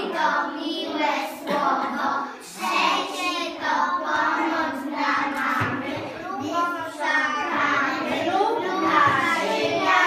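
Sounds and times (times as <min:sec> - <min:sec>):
children singing together: 0:00.0 - 0:10.0.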